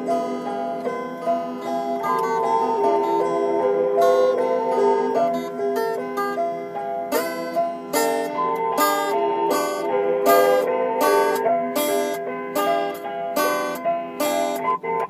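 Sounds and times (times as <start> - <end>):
plucked string instrument strumming: 0.0 - 15.0.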